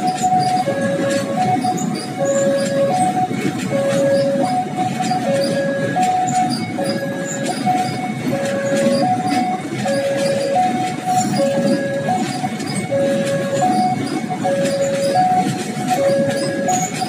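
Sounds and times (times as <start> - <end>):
freight train wheels clacking: 0.0 - 17.0
level crossing alarm two-note tone: 0.0 - 17.0.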